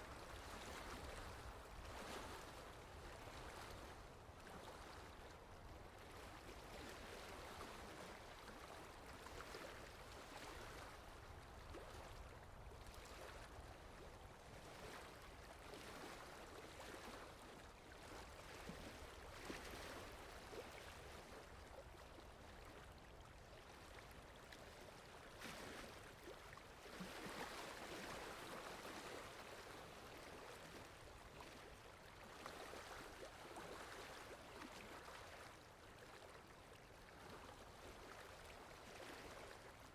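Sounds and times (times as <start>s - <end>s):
water lapping: 0.0s - 39.9s
wind: 0.0s - 39.9s.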